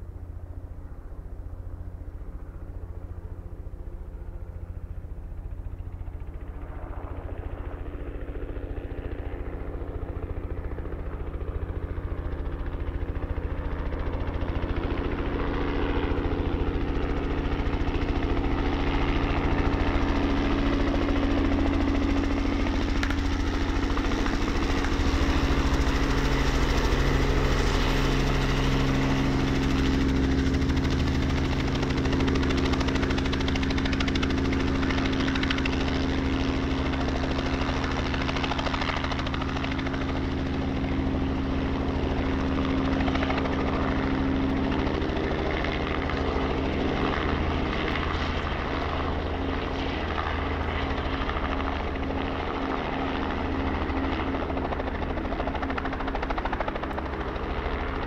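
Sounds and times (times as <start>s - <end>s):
helicopter engine hum: 0.0s - 58.0s
helicopter rotor beating: 0.0s - 58.0s.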